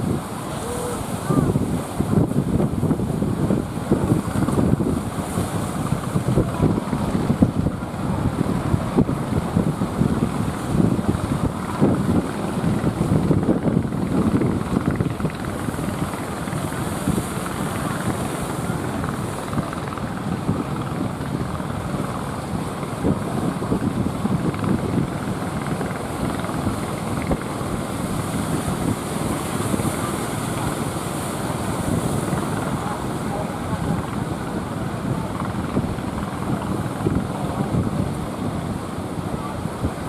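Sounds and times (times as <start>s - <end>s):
sea surf breaking: 0.0s - 40.0s
wind buffeting microphone: 0.0s - 40.0s.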